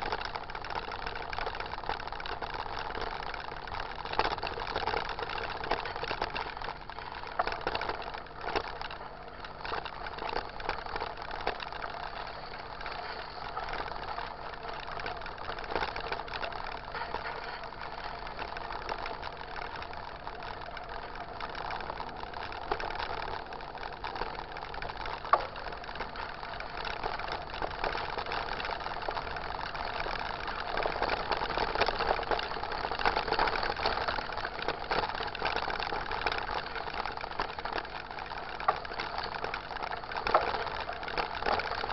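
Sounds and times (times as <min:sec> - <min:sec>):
bike rattling and clicking: 0:00.0 - 0:41.9
bike tyres on rough road: 0:00.0 - 0:41.9.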